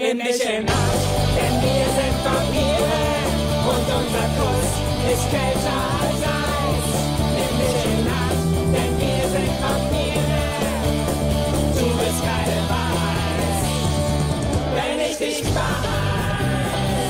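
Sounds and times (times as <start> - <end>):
person singing: 0.0 - 11.0, 11.7 - 13.9, 14.7 - 17.0
rock guitar: 0.6 - 17.0
steady bass line: 0.7 - 14.8, 15.4 - 17.0.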